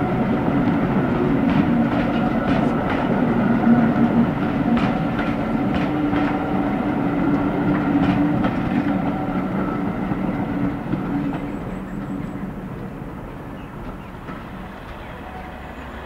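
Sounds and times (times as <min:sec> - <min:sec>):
diesel locomotive engine: 0:00.0 - 0:16.0
wheels clicking over rail joints: 0:00.4 - 0:16.0.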